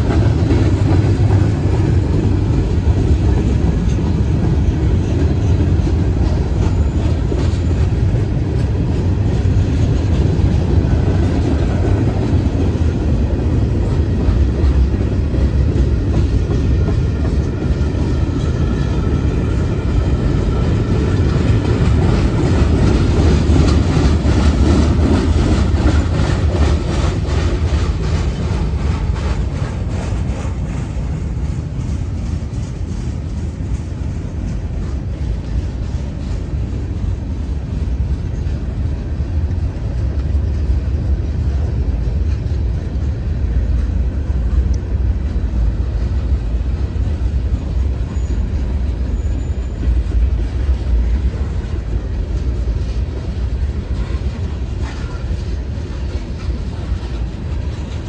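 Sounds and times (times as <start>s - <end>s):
train rumble: 0.0s - 58.0s
wheels clacking over rail joints: 0.0s - 58.0s.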